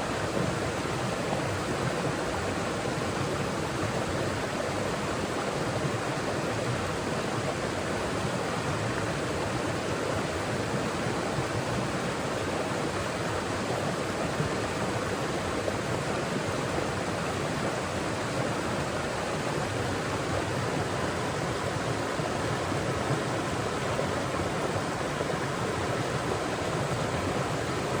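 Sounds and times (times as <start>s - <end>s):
water flowing over rocks: 0.0s - 28.0s.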